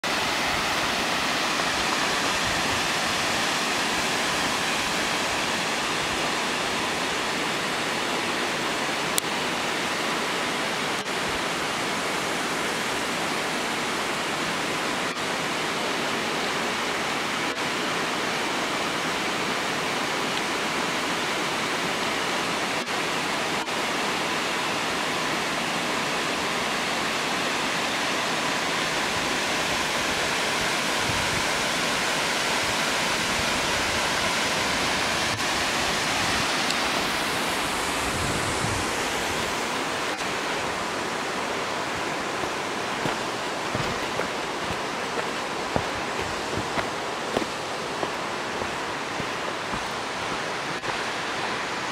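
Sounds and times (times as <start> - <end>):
waterfall rushing over rock: 0.0 - 51.9.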